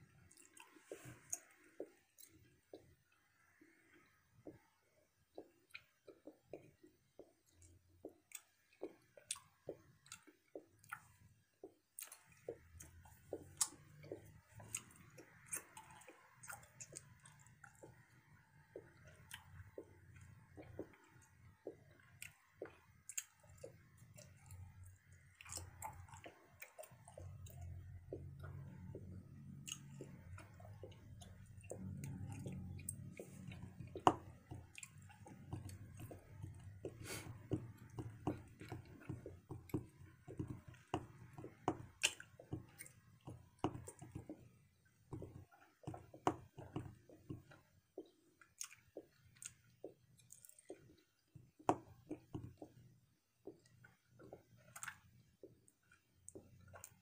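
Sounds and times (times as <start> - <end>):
person chewing gum: 0.0 - 4.7, 5.3 - 57.0.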